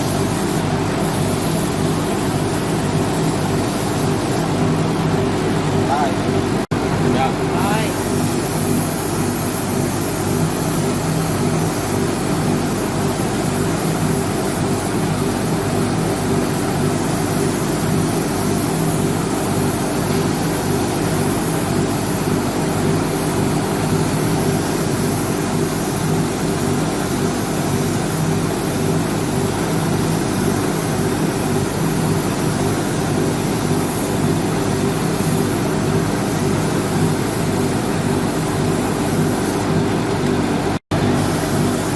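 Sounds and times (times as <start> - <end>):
machine hum with hiss: 0.0 - 41.9.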